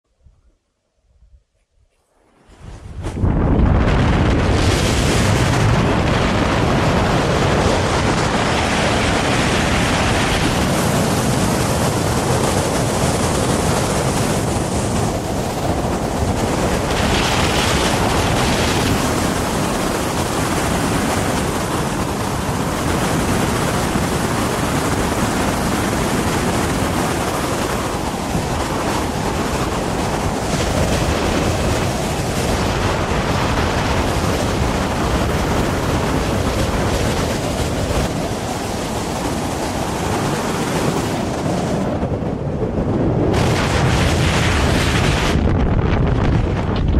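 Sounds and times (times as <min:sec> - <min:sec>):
wind rushing across microphone: 0:00.1 - 0:46.9.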